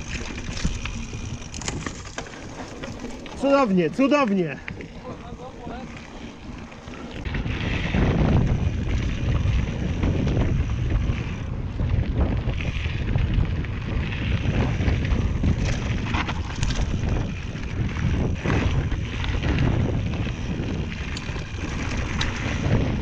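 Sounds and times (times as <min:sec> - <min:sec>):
tyres rumbling on dirt: 0:00.0 - 0:23.0
wind buffeting microphone: 0:00.0 - 0:23.0.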